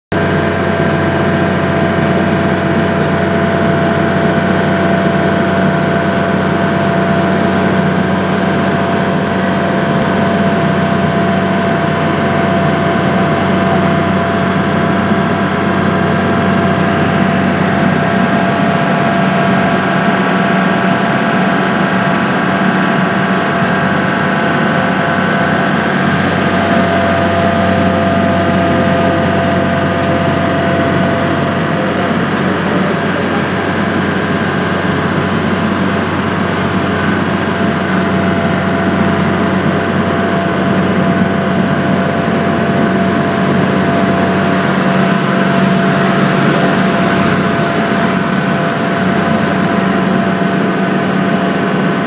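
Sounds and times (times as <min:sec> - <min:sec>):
boat engine droning: 0:00.1 - 0:52.0.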